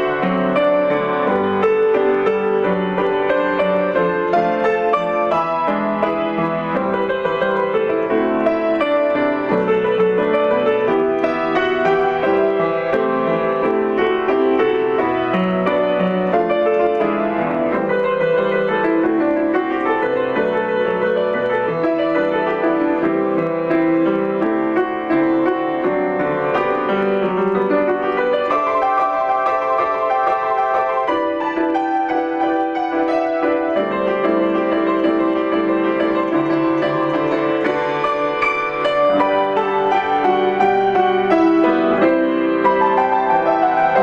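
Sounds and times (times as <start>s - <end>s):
piano melody over chords: 0.0s - 44.0s.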